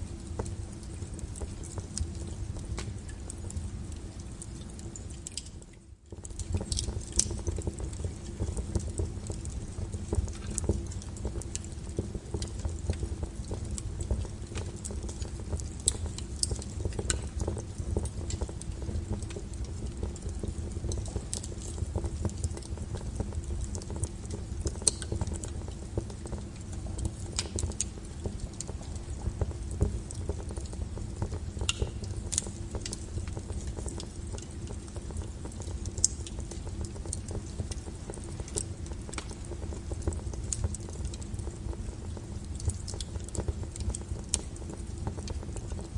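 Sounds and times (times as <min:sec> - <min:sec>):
low rumble of flames: 0:00.0 - 0:45.9
wood fire crackling: 0:00.0 - 0:45.9.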